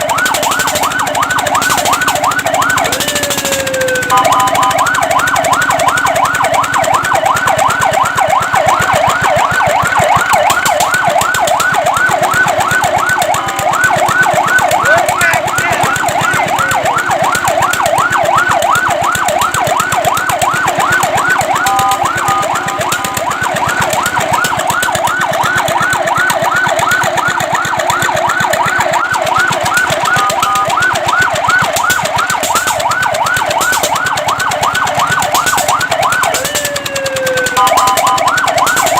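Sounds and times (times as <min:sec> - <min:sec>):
fire truck siren yelping: 0:00.0 - 0:38.9
two-note siren tones: 0:00.0 - 0:38.9.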